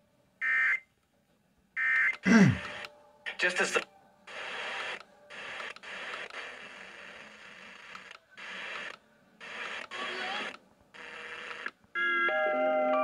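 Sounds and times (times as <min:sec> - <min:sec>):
faint hissy broadcast audio: 0:00.0 - 0:13.0.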